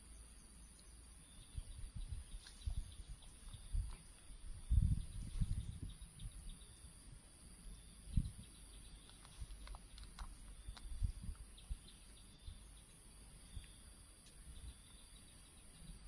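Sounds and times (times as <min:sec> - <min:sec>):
bird chirps: 0:00.0 - 0:07.0, 0:07.6 - 0:16.0.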